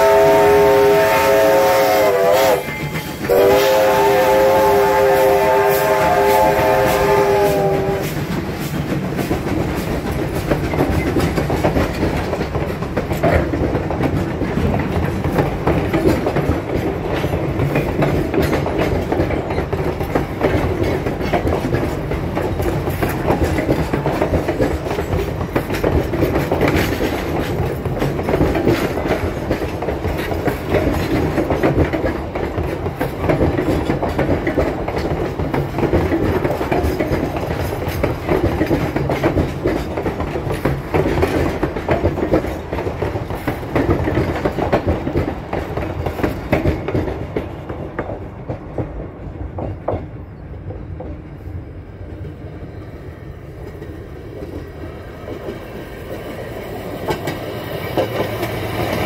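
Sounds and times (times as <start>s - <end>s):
train wheels rumbling over rail joints: 0.0s - 59.0s.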